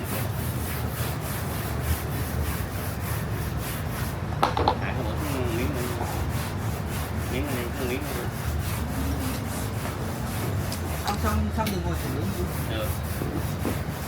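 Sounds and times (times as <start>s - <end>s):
rhythmic rubbing strokes: 0.0s - 4.2s, 4.9s - 14.0s
steady low hum: 0.0s - 14.0s.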